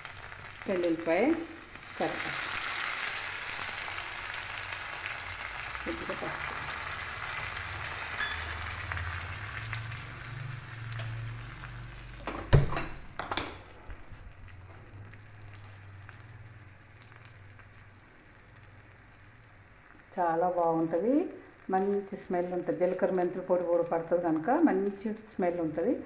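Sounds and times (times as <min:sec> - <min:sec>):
spices sizzling in hot oil: 0:00.0 - 0:12.2, 0:14.0 - 0:26.0.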